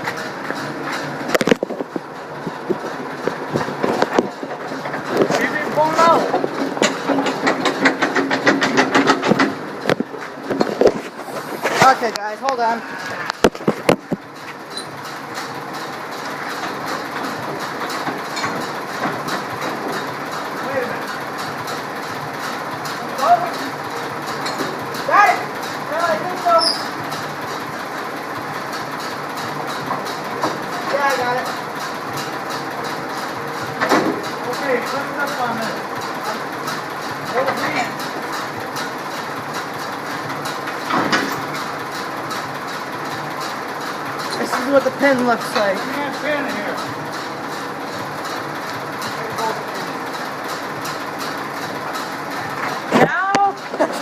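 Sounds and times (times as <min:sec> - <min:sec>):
tractor engine rattling: 0:00.0 - 0:54.0.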